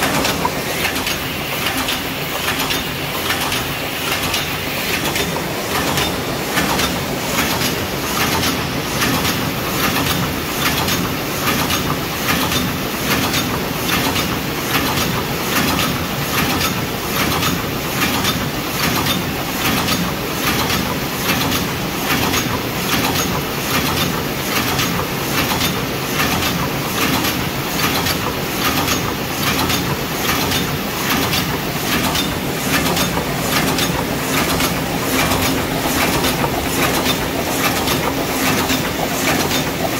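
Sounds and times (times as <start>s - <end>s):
machine rhythmic clatter: 0.0s - 39.9s.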